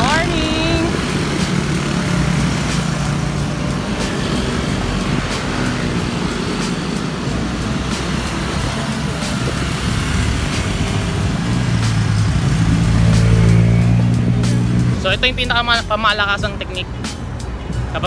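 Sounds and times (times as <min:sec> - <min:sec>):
motorcycle engine hum: 0:00.0 - 0:18.0
motorcycles roaring along road: 0:00.0 - 0:18.0.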